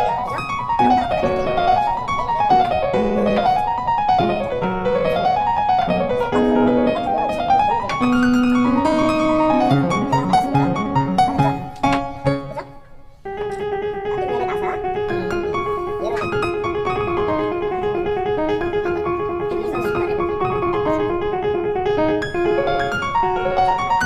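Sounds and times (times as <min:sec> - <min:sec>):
piano playing runs of notes: 0:00.0 - 0:24.0.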